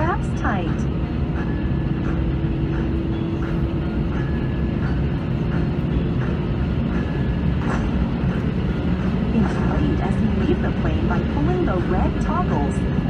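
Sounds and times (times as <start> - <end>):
low rumble of aircraft engines: 0.0 - 13.0.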